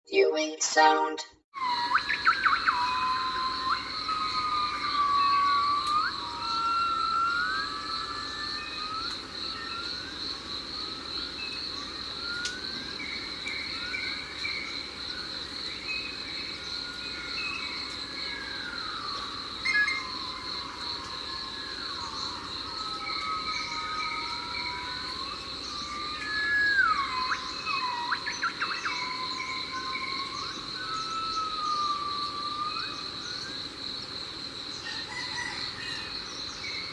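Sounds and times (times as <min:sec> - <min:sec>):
high insect drone: 0:01.6 - 0:36.9.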